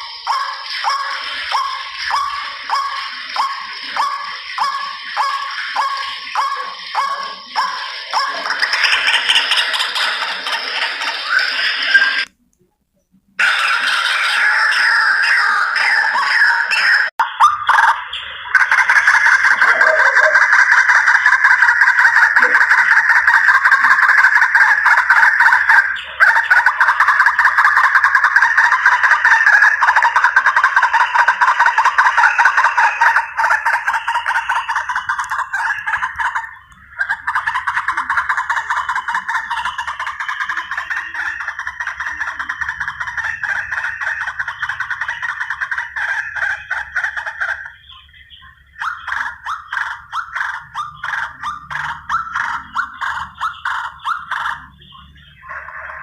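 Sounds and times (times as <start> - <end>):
bird harsh repeated calls: 0.0 - 12.3, 13.4 - 56.0.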